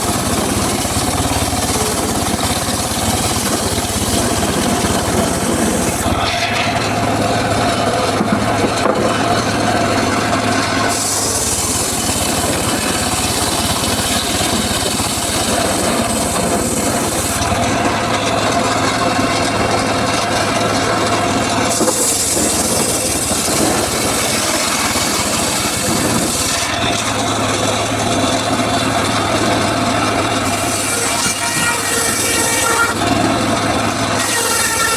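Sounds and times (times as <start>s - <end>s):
circular saw running: 0.0s - 34.9s
saw blade cutting wood: 0.0s - 34.9s.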